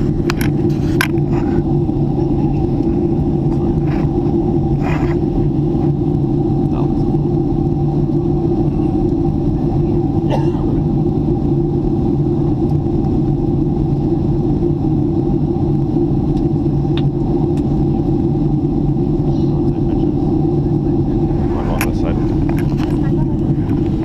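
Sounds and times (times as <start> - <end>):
jet cabin engine drone: 0.0 - 24.0.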